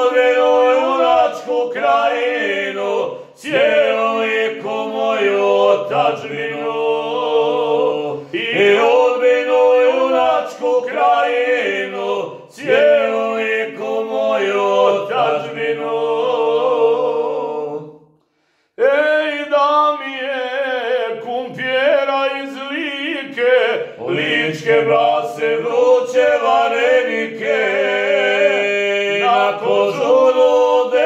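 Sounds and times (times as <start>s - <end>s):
two men singing unaccompanied: 0.0s - 18.1s, 18.7s - 31.0s.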